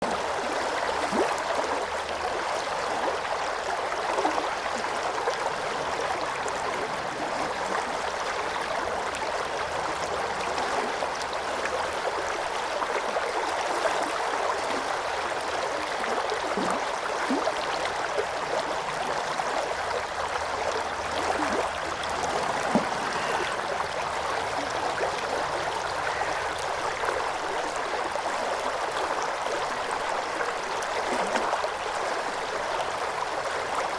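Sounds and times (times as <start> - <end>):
river water flowing over rocks: 0.0 - 33.9.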